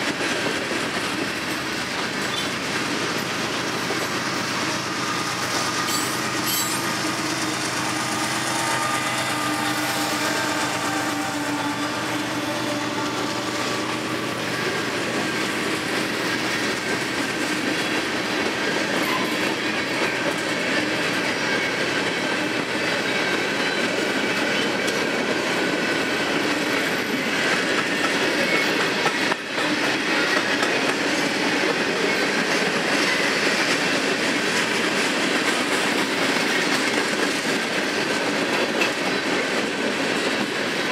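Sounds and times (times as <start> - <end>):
diesel locomotive engine: 0.0 - 40.9
train wheels clattering on rails: 0.0 - 40.9.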